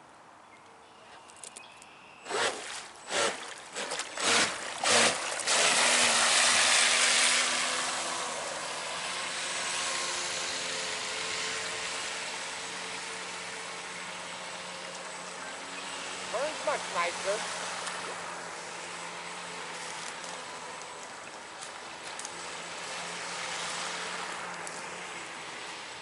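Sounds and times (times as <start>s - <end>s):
boat motor churning water: 2.2s - 26.0s.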